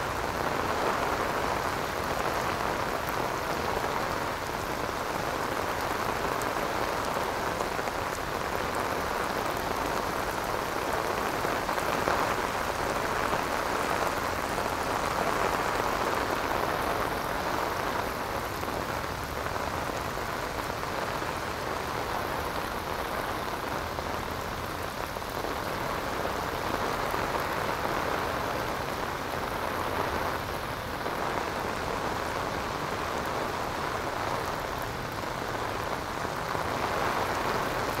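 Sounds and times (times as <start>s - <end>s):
heavy rain on pavement: 0.0s - 38.0s.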